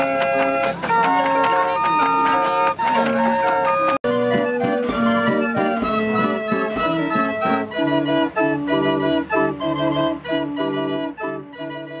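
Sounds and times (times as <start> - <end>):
fairground organ playing: 0.0 - 12.0.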